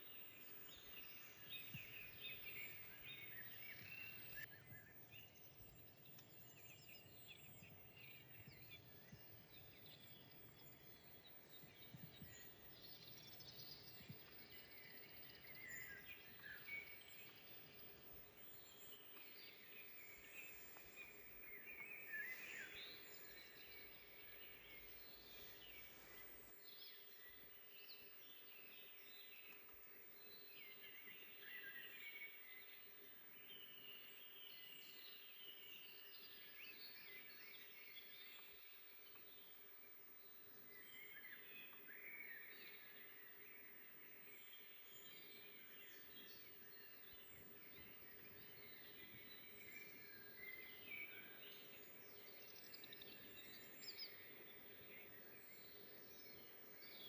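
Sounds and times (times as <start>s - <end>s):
forest background hush: 0.0s - 57.0s
songbirds chirping and trilling: 0.0s - 57.0s.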